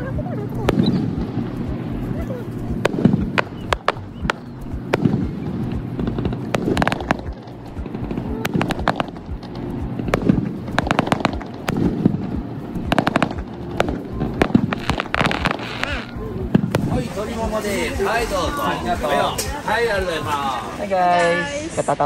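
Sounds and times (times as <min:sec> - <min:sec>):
low rumble: 0:00.0 - 0:20.8
fireworks bangs and crackles: 0:00.1 - 0:20.8.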